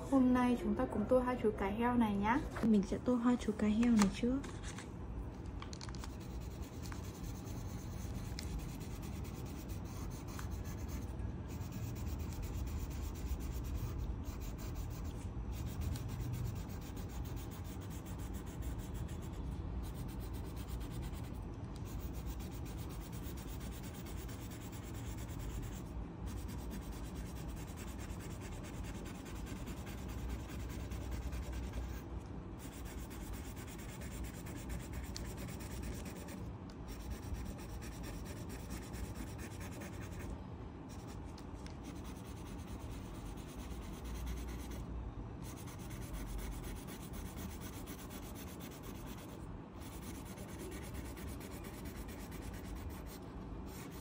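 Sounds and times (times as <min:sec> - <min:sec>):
pencil rubbing on paper: 0:06.1 - 0:32.0, 0:32.6 - 0:40.3, 0:41.8 - 0:44.8, 0:45.4 - 0:54.0.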